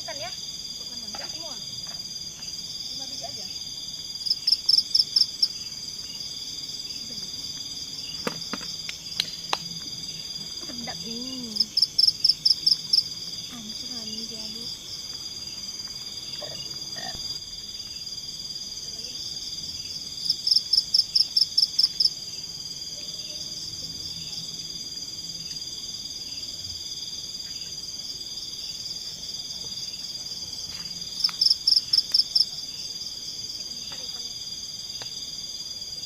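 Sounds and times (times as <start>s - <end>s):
crickets trilling: 0.0s - 36.0s
rapid sharp insect chirps: 0.0s - 36.0s.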